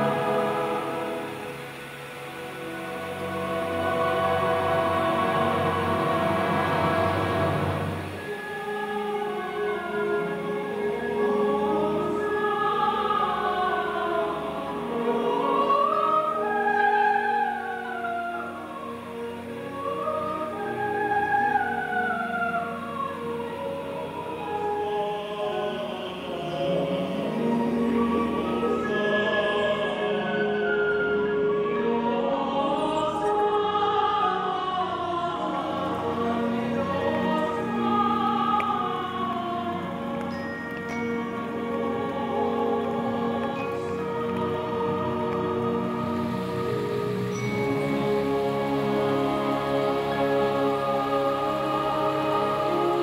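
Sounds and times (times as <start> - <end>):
chorus singing long notes: 0.0 - 53.0
symphony orchestra: 0.0 - 53.0.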